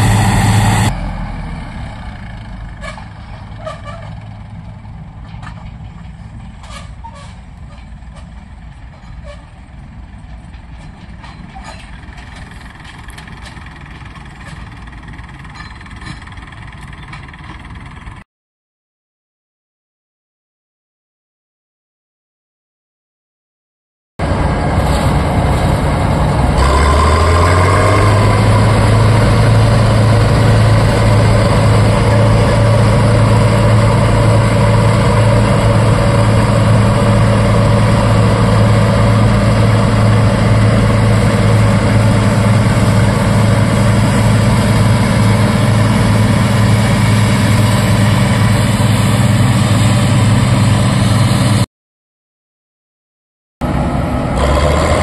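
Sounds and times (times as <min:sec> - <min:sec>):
diesel engine running loudly: 0:00.0 - 0:18.2, 0:24.2 - 0:51.7, 0:53.6 - 0:55.0.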